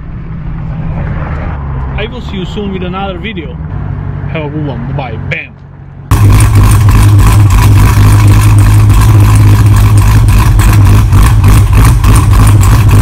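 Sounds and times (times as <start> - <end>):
loud car engine running hard: 0.0 - 13.0.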